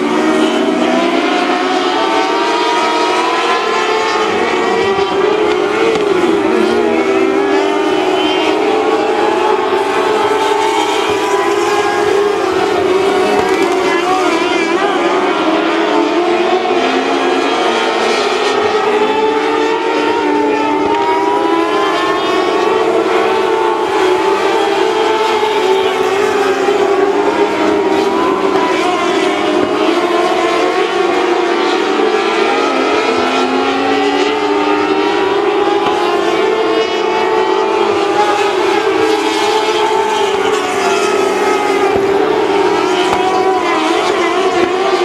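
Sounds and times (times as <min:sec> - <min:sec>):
race car engines: 0:00.0 - 0:45.0.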